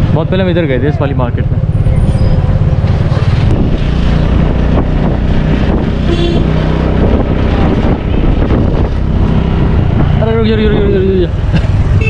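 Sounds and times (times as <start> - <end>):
motorcycle engine running: 0.0 - 12.0
wind rushing over microphone: 1.9 - 12.0.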